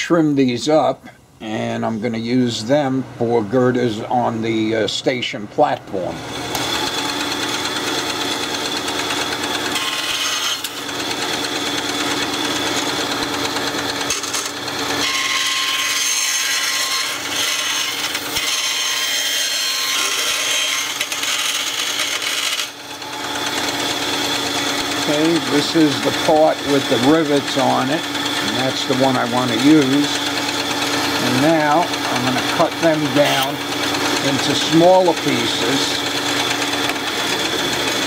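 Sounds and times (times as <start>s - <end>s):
band saw motor and blade whine: 0.0s - 38.0s.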